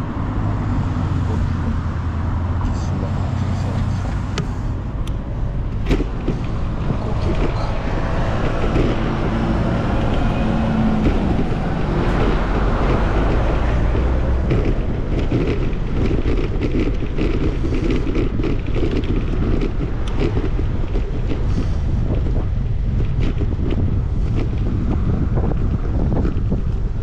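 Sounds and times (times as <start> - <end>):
traffic noise: 0.0 - 27.0
vehicle engine: 0.0 - 27.0
wind rumbling on microphone: 0.0 - 27.0.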